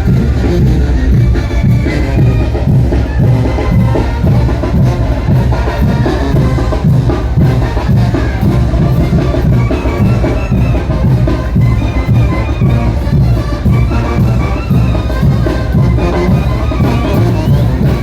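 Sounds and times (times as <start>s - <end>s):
brass band playing: 0.0s - 18.0s
steady drum beat: 0.0s - 18.0s.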